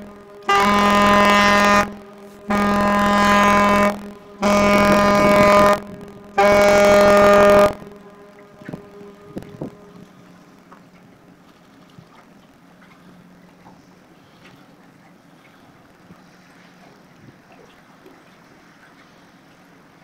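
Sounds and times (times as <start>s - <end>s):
ship horn blasts: 0.0s - 17.1s.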